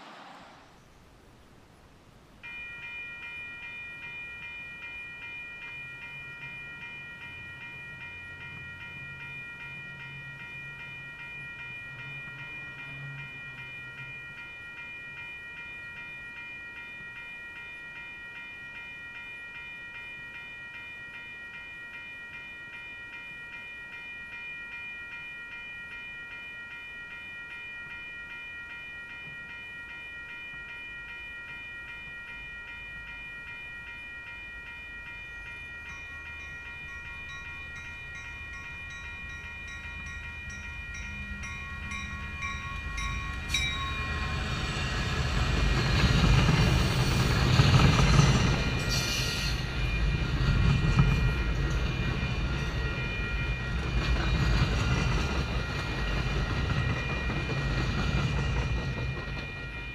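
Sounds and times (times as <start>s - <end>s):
crossing bell ringing: 2.4s - 59.9s.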